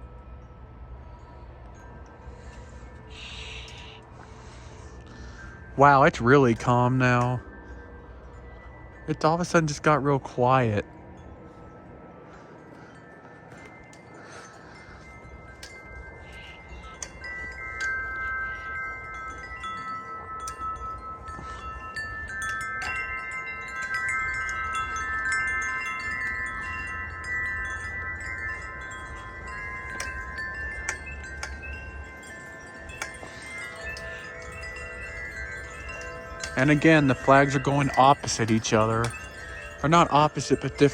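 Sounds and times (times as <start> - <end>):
low rumble of wind: 0.0 - 40.9
wind chimes ringing: 0.0 - 40.9.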